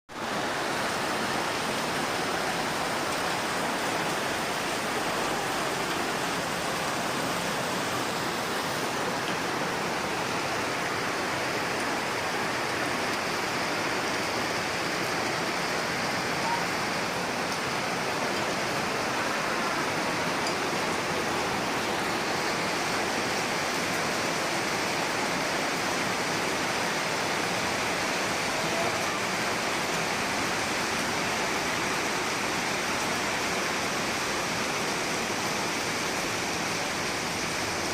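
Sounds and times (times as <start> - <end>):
heavy rain falling: 0.1 - 37.9.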